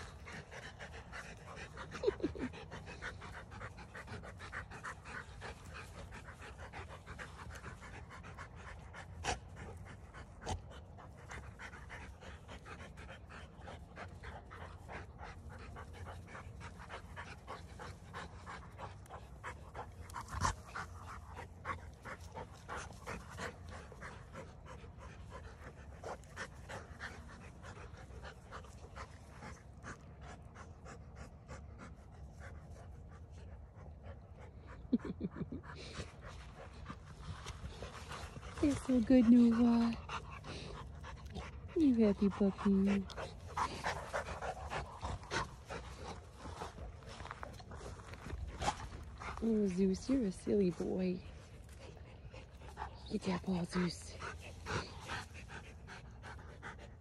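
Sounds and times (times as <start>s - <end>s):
dogs panting: 0.0s - 57.0s.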